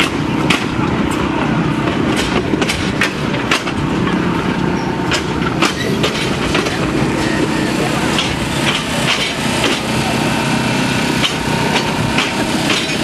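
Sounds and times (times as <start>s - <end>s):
wheels clicking over rail joints: 0.0s - 10.4s, 11.0s - 13.0s
train wheels rumbling on rails: 0.0s - 13.0s.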